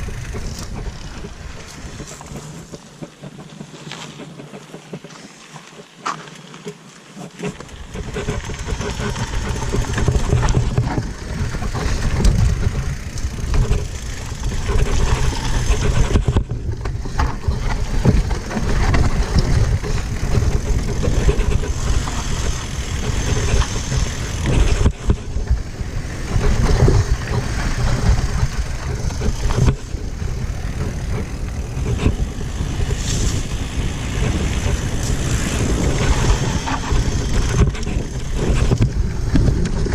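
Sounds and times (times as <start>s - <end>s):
wind buffeting microphone: 0.0s - 4.6s, 7.6s - 39.9s
mountain bike rattling on trail: 0.0s - 39.9s.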